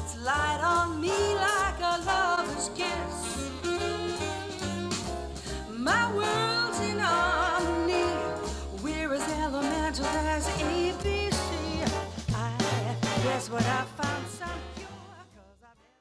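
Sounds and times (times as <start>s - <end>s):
bass and beat: 0.0s - 15.1s.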